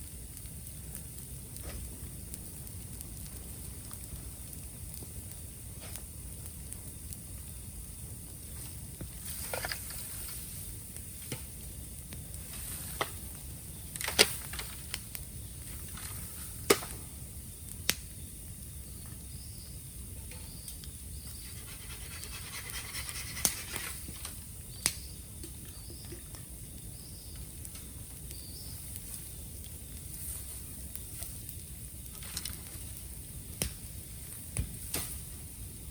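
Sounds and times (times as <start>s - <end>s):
bamboo bonfire crackling: 0.0s - 35.9s
loud pops from fire: 0.0s - 35.9s.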